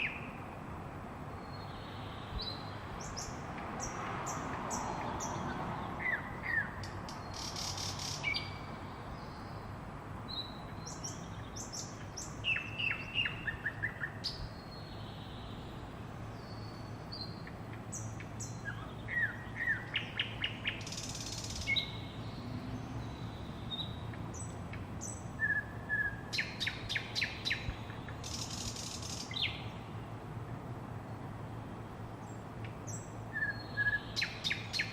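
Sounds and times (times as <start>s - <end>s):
low hum of city traffic: 0.0s - 34.9s
songbirds singing and chirping: 0.0s - 34.9s.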